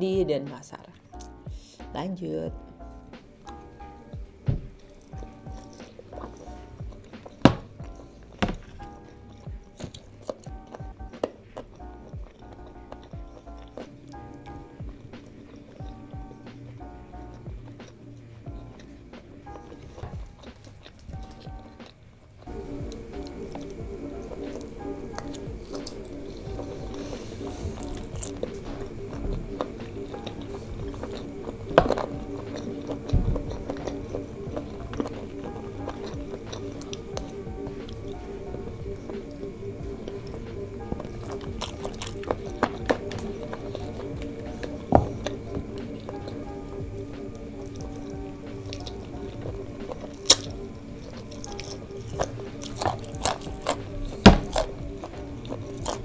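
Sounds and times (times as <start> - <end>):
background music: 0.0 - 56.0
close-up chewing and mouth sounds: 0.7 - 1.8, 2.9 - 56.0.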